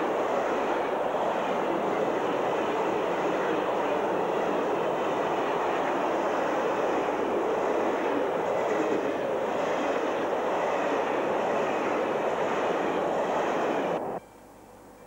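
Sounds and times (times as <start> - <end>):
train wheels rattling on rails: 0.0 - 14.2.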